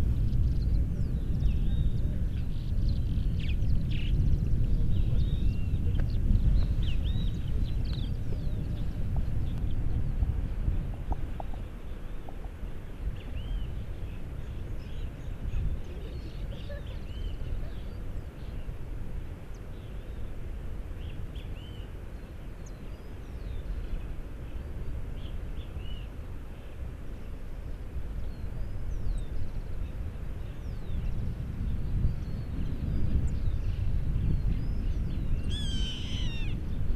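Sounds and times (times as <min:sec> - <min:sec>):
small birds chirping: 0:00.0 - 0:18.8, 0:21.0 - 0:36.9
low outdoor rumble: 0:00.0 - 0:36.9.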